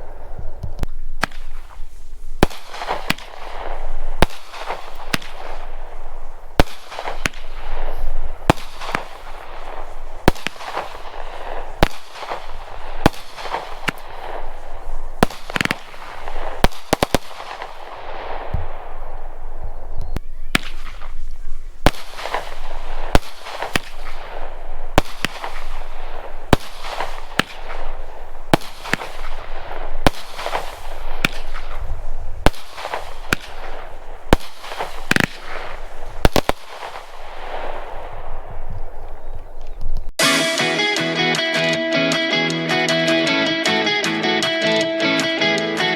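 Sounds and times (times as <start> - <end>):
firework crackling: 0.0 - 41.8
firework reports: 0.0 - 41.8.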